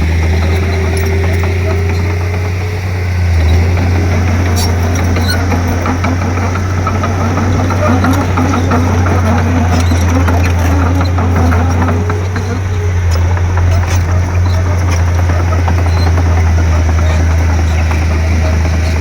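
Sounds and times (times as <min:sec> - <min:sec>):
bulldozer diesel engine droning: 0:00.0 - 0:19.0
clicks and rattles: 0:00.0 - 0:19.0.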